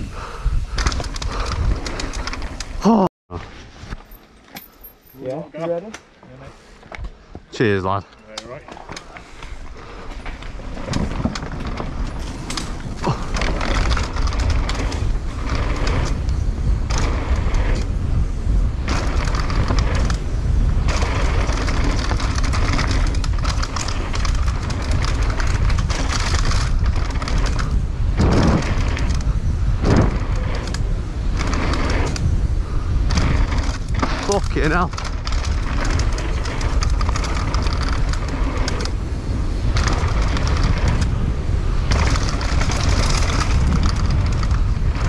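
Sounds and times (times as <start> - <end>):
wind buffeting microphone: 0.0 - 2.9, 8.7 - 45.0
bike frame rattling: 0.0 - 3.0, 8.5 - 45.0
bike tyre noise: 0.0 - 45.0.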